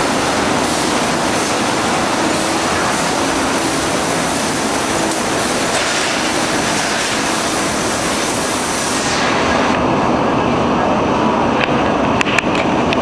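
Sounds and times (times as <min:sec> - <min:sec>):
continuous machine hiss: 0:00.0 - 0:13.0
machine rollers running: 0:00.0 - 0:13.0.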